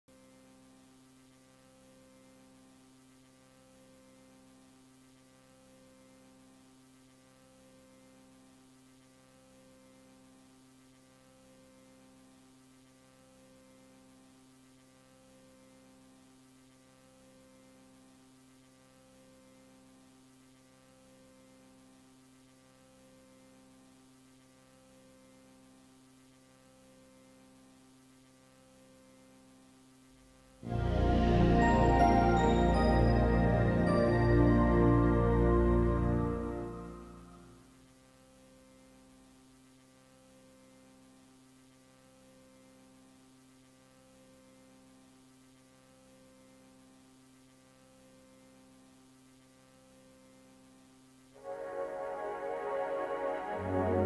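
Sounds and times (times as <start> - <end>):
faint electrical mains hum: 0.1 - 54.0.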